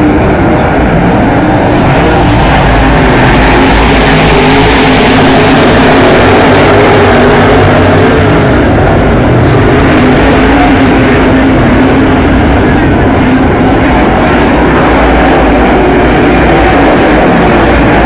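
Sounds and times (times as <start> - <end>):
race car engines roaring: 0.0 - 18.0.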